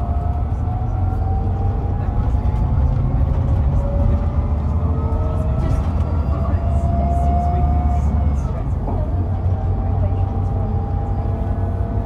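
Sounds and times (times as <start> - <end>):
diesel coach engine droning: 0.0 - 12.0.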